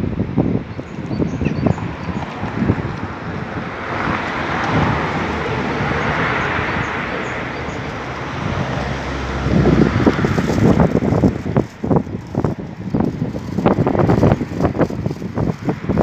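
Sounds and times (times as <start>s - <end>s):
vehicle passing on road: 0.0s - 16.0s.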